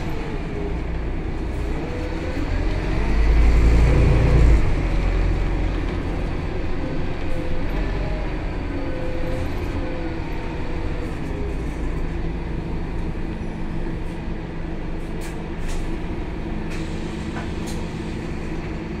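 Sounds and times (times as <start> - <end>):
diesel bus engine rumbling: 0.0 - 19.0.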